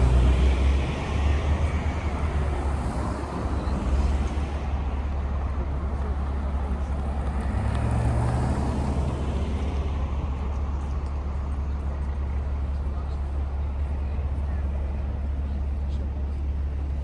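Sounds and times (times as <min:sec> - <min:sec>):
vehicle engine rising: 0:00.0 - 0:13.8
traffic rumble: 0:00.0 - 0:17.0.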